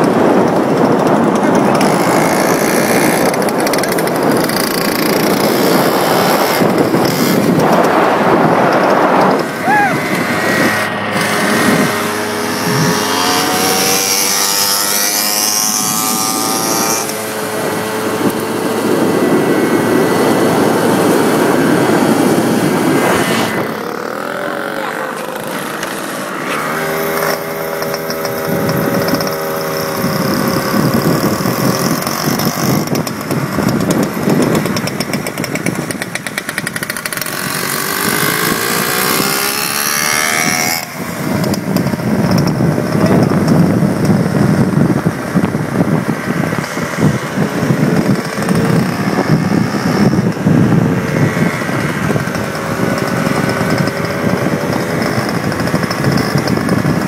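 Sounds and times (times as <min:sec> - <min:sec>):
small engines revving: 0:00.0 - 0:57.0
wind rushing over microphone: 0:00.0 - 0:57.0.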